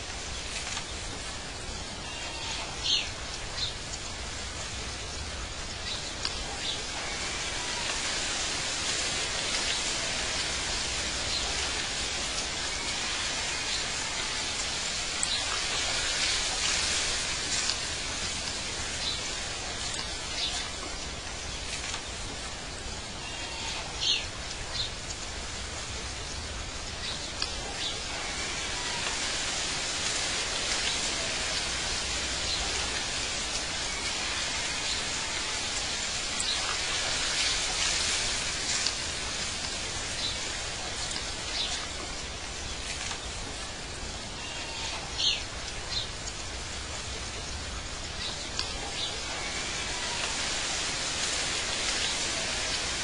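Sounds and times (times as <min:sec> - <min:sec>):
steady hiss of wind or water: 0:00.0 - 0:53.0.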